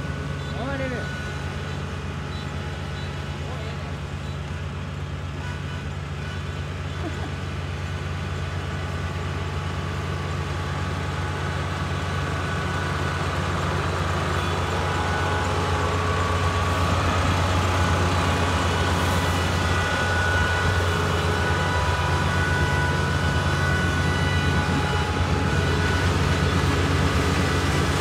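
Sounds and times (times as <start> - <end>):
high machine whining tones: 0.0 - 7.3, 8.2 - 28.0
combine harvester engine hum: 0.0 - 28.0.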